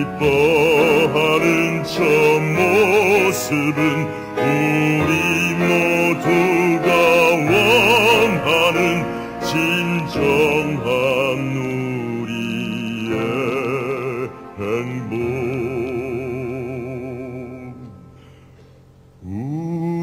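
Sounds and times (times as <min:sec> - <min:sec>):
man singing with vibrato: 0:00.0 - 0:18.2, 0:19.2 - 0:20.0.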